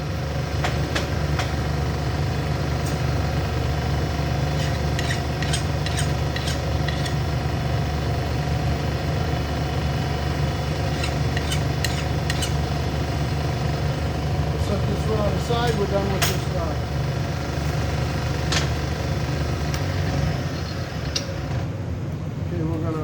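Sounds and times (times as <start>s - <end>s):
grinding machine motor droning: 0.0s - 21.8s.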